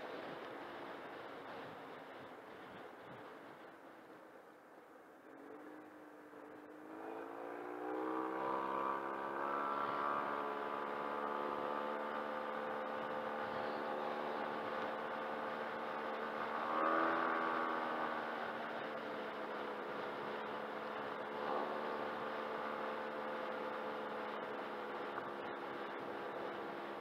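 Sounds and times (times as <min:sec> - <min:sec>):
scooter engine pulling away: 0:05.3 - 0:27.0.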